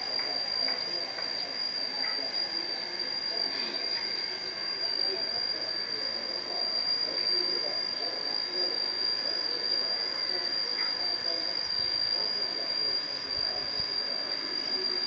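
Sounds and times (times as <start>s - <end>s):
faint background murmur: 0.0s - 15.0s
high-pitched insect trill: 0.0s - 15.0s.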